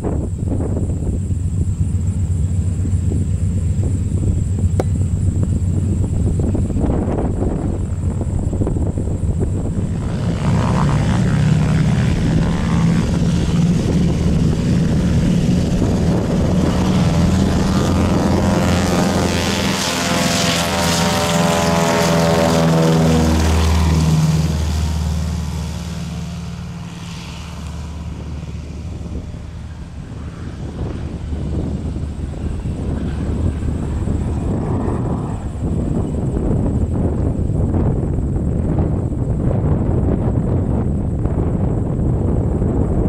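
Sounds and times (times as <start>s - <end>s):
propeller airliner engines droning: 0.0s - 43.0s.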